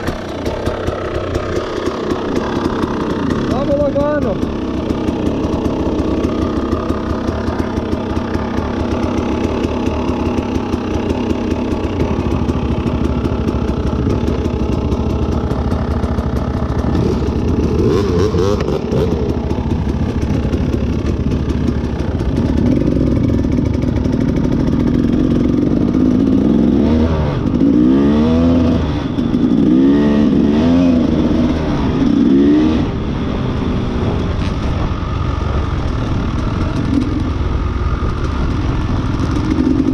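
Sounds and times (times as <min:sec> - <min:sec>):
engine clatter: 0:00.0 - 0:39.9
motorcycle engine revving: 0:00.0 - 0:39.9.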